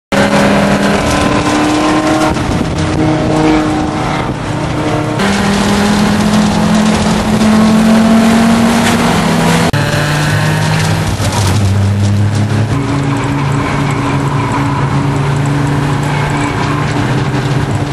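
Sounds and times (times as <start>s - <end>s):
race car engine under load: 0.1s - 17.9s
road noise: 0.1s - 17.9s
wind noise: 0.2s - 17.9s.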